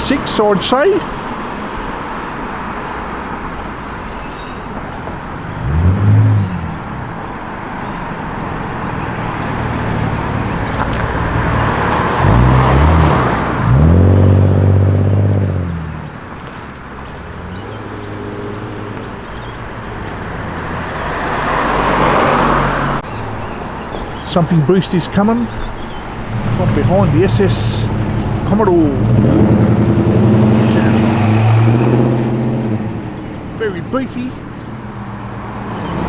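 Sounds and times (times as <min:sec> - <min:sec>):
car engines revving: 0:00.0 - 0:36.0
traffic hum: 0:00.0 - 0:36.0.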